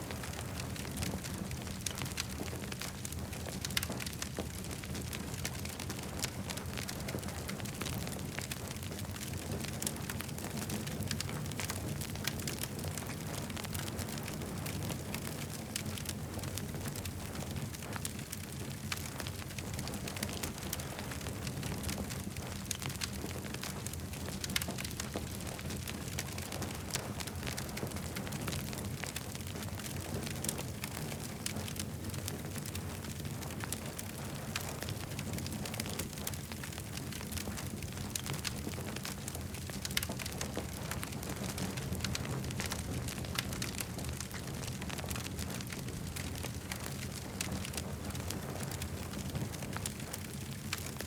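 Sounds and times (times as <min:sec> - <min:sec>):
campfire crackling: 0:00.0 - 0:51.0.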